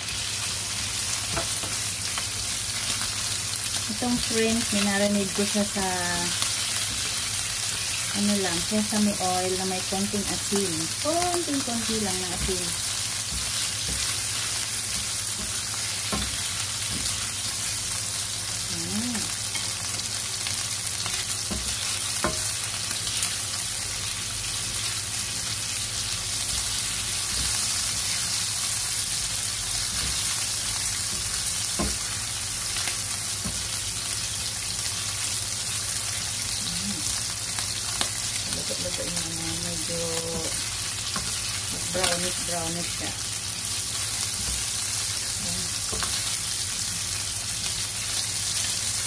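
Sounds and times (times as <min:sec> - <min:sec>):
shrimp sizzling in oil: 0:00.0 - 0:49.0.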